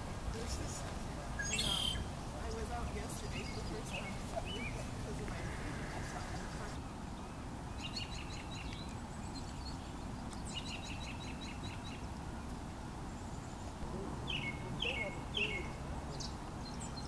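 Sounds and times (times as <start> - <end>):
small bird calling: 1.3 - 12.1, 13.1 - 17.0.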